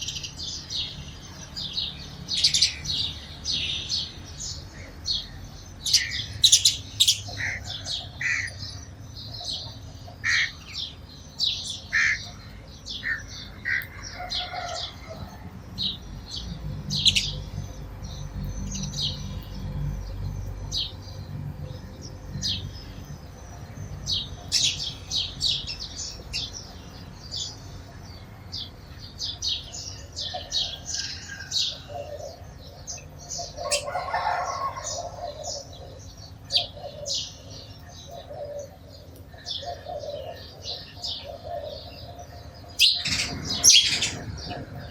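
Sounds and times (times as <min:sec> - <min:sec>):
sparrows chirping: 0:00.0 - 0:44.9.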